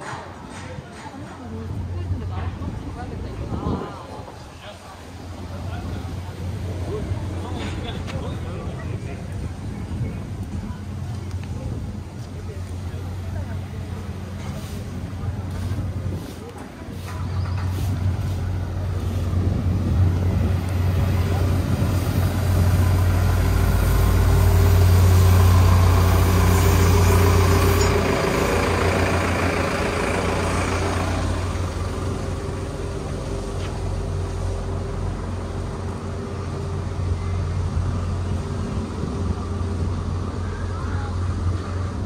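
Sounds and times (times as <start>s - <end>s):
large vehicle engine running: 0.0s - 42.0s
traffic rumble: 0.0s - 42.0s.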